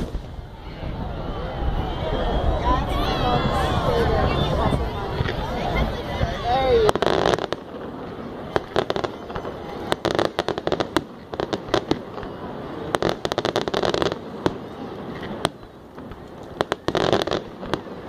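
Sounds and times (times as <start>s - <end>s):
fireworks bangs and cracks: 0.0s - 18.0s
fireworks crackling: 0.0s - 18.0s.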